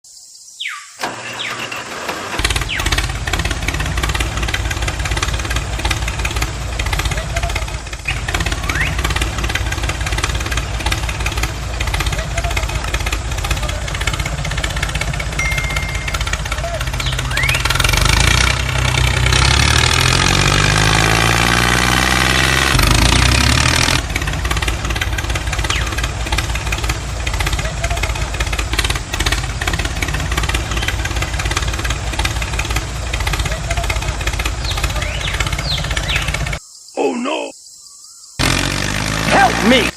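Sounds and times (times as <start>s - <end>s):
engine rumbling and knocking: 1.8s - 36.6s.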